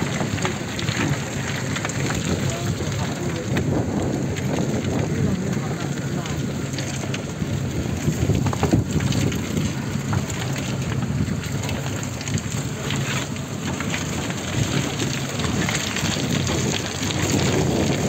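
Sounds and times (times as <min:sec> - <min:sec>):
car engine running slowly: 0:00.0 - 0:18.0
wind noise on microphone: 0:00.0 - 0:18.0.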